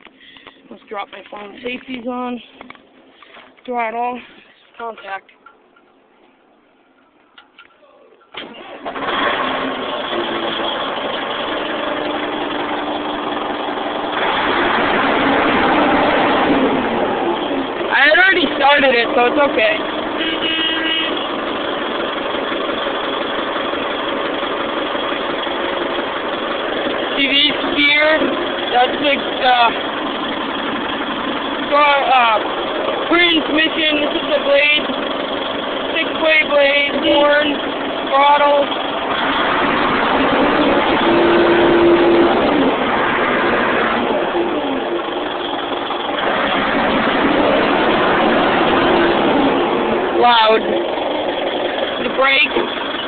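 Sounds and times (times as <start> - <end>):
bulldozer diesel engine idling: 0.0 - 7.1, 8.2 - 53.0
short steady whine: 10.1 - 53.0.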